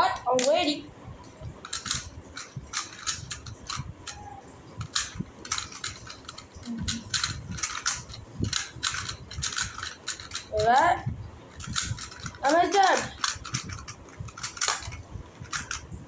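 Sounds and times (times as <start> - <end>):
puzzle cubes clicking: 1.6 - 10.8, 11.5 - 15.9.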